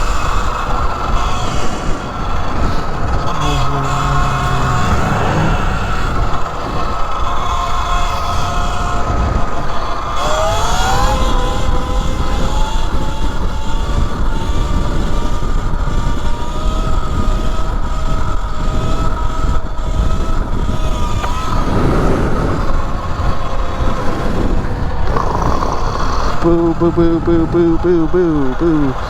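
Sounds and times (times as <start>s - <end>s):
electric motor whine: 0.0s - 29.0s
wind rumble on microphone: 0.0s - 29.0s.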